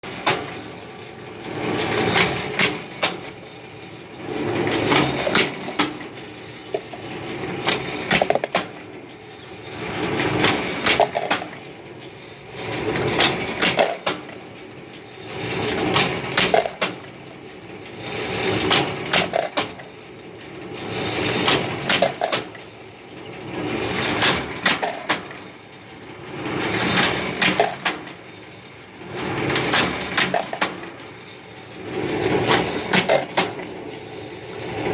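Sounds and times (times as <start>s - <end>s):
workshop machinery cycling: 0.0s - 34.9s.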